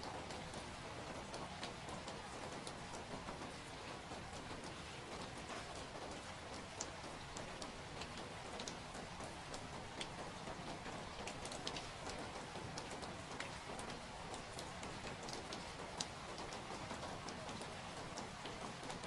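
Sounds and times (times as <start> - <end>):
raindrop ticks: 0.0 - 19.0
steady rain hiss: 0.0 - 19.0.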